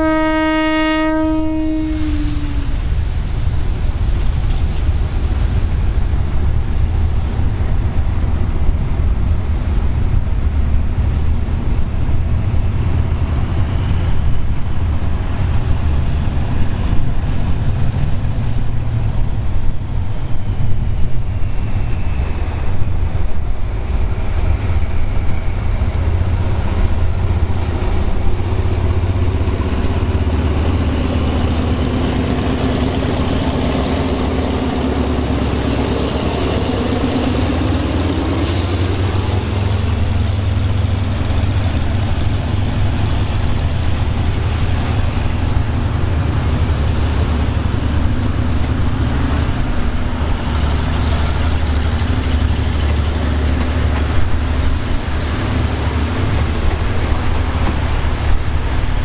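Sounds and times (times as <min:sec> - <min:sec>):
locomotive engine rumbling: 0:00.0 - 0:59.0.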